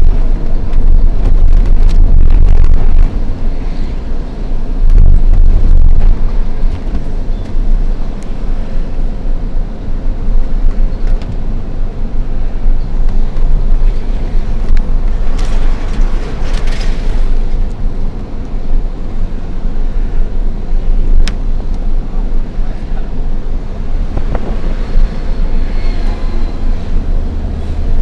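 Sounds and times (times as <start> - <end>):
truck diesel engine rumble: 0.0 - 28.0.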